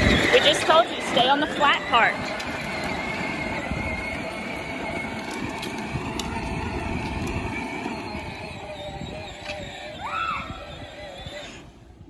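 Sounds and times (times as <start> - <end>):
electric motor and gearbox whine: 0.0 - 12.0
plastic wheels rolling on concrete: 0.0 - 12.0.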